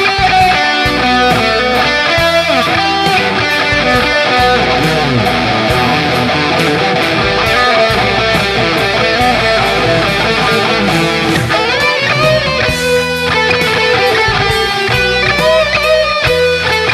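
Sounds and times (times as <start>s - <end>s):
steady drum beat: 0.0s - 16.8s
bass: 0.0s - 16.9s
electric guitar sliding notes: 0.0s - 16.9s.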